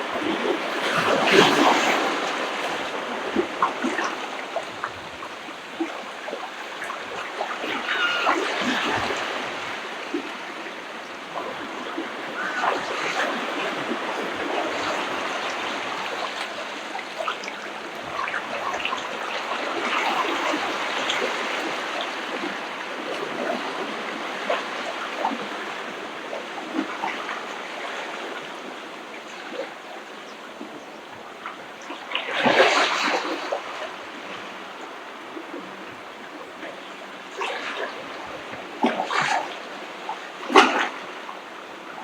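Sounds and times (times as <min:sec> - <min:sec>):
small waves splashing on shore: 0:00.0 - 0:42.0.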